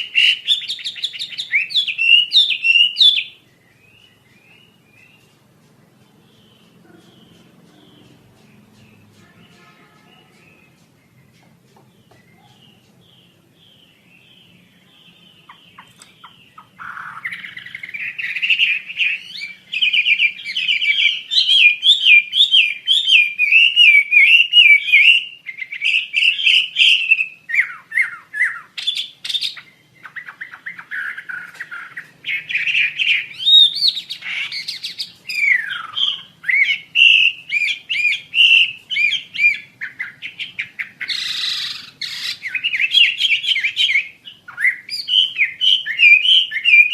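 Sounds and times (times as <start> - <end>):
bird warbling and chattering: 0.0 - 46.9.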